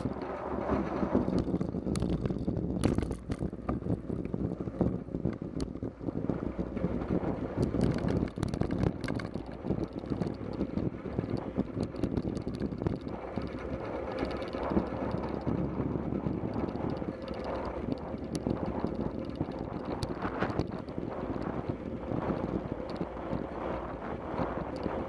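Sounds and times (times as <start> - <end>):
knocks and rattles: 0.0 - 25.0
road rumble: 0.0 - 25.0
wind on microphone: 0.0 - 25.0.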